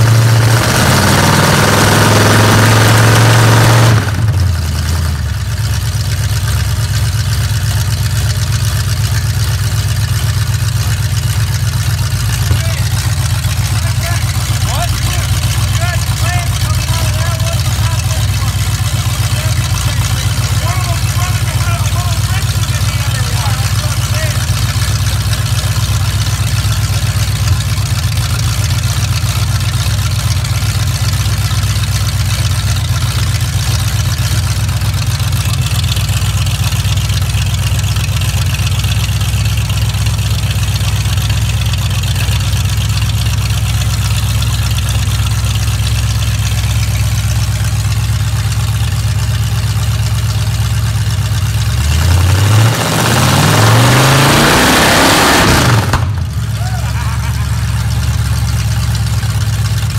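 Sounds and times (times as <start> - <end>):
boat engine idling and revving: 0.0 - 59.9.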